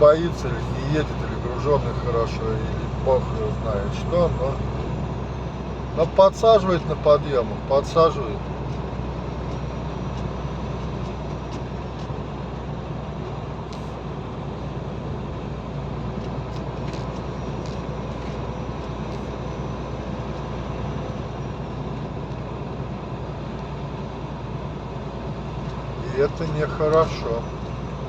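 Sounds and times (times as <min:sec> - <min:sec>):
road noise: 0:00.0 - 0:28.0
truck engine drone: 0:00.0 - 0:28.0.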